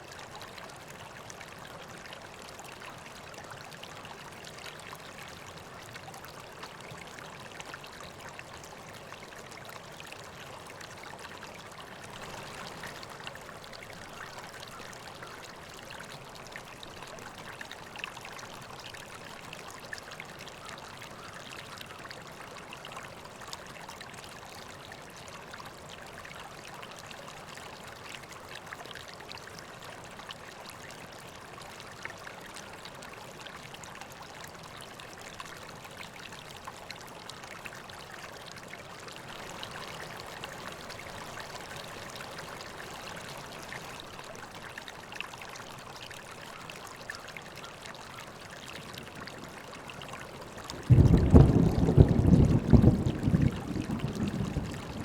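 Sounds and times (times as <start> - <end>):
river water flowing: 0.0 - 55.0
small splashes and drips: 0.0 - 55.0.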